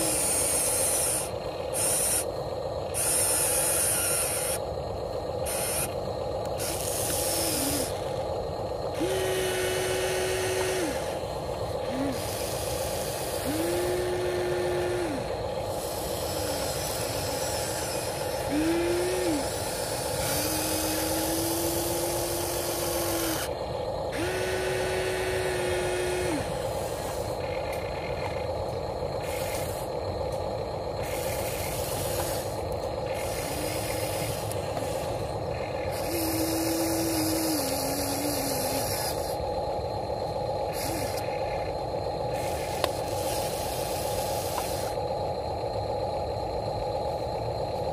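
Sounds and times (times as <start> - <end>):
electric motors whining: 0.0 - 47.9
steady hum and hiss: 0.0 - 47.9.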